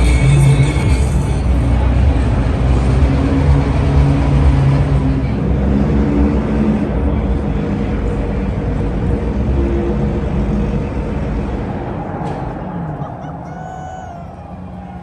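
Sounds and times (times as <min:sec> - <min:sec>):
car engine running: 0:01.0 - 0:13.1.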